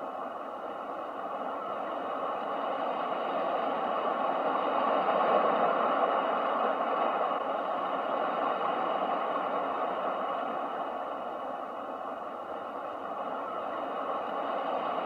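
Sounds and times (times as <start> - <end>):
ocean waves washing: 0.0 - 15.0.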